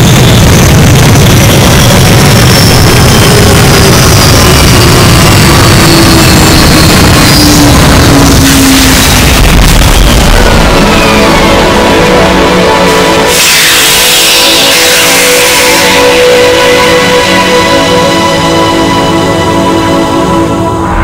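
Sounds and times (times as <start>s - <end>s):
steady rumbling roar: 0.0s - 21.0s.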